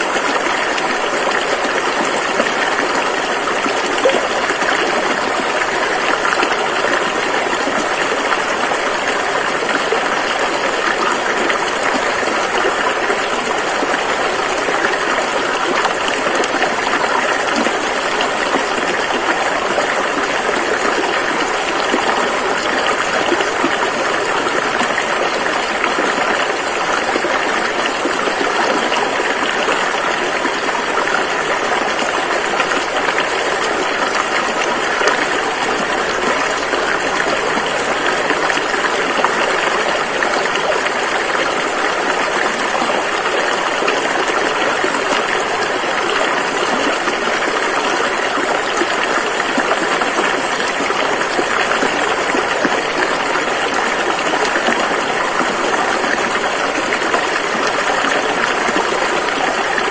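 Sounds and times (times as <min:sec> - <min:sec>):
river water rushing over rocks: 0:00.0 - 0:59.9.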